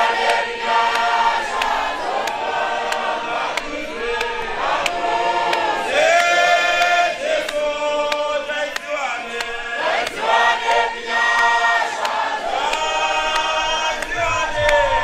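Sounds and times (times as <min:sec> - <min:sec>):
men singing a hymn: 0:00.0 - 0:15.0
steady beat of sharp clicks: 0:00.0 - 0:15.0.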